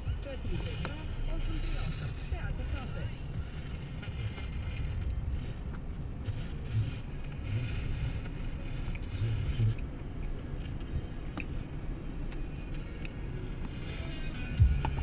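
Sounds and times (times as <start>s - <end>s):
car interior engine and tyre rumble: 0.0s - 15.0s.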